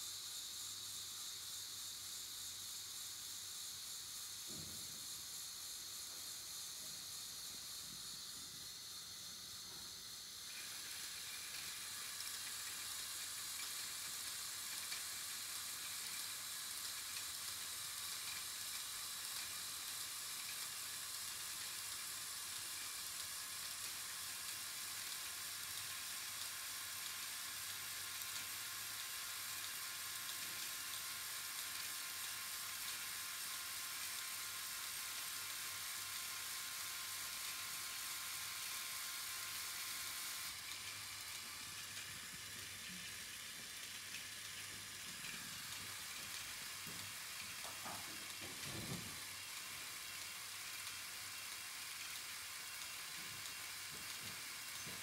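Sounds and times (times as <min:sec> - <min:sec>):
toy motors whirring: 0:00.0 - 0:55.0.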